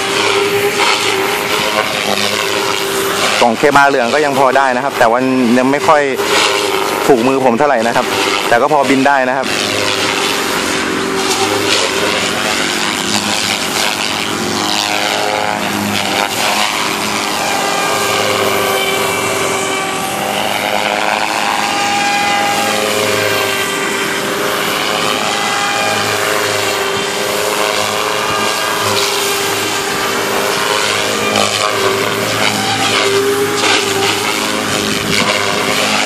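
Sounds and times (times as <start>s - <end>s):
model helicopter rotor whine: 0.0s - 36.0s.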